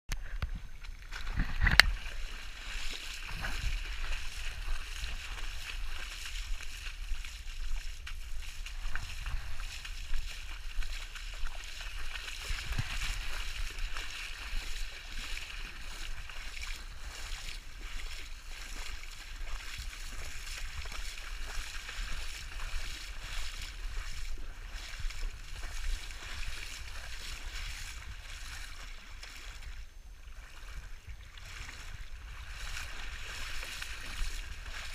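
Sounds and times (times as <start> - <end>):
rushing stream water: 0.1 - 34.9
water sloshing from wading: 0.1 - 34.9.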